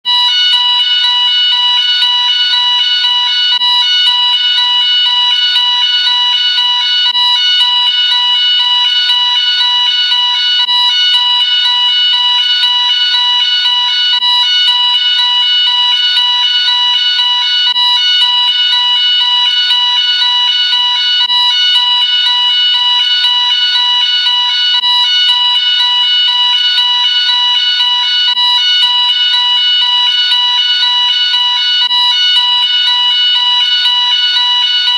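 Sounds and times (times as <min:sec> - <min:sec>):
fire alarm sounder: 0:00.0 - 0:34.9.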